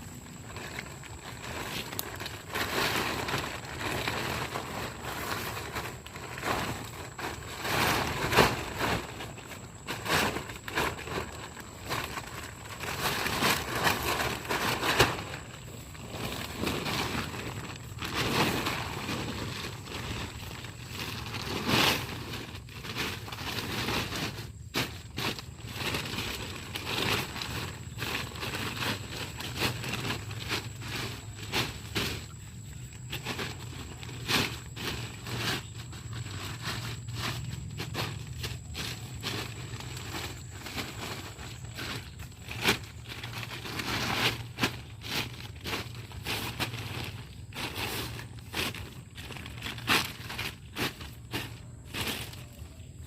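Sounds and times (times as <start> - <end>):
rustling and crunching: 0.0 - 53.0.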